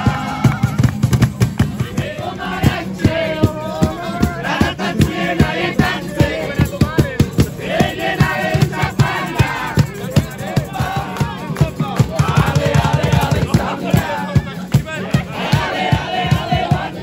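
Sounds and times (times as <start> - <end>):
fast percussive beat: 0.0 - 17.0
strummed acoustic guitars: 0.0 - 17.0
men singing together: 1.8 - 17.0.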